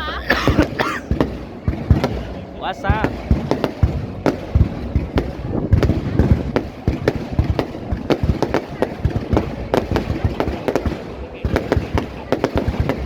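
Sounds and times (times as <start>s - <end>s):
fireworks bangs and cracks: 0.0s - 13.0s
low rumble of booms: 0.4s - 13.0s.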